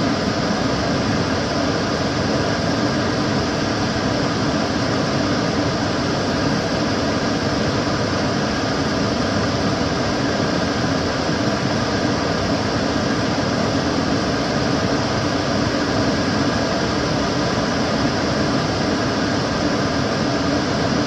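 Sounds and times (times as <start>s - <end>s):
extractor fan rush of air: 0.0s - 21.0s.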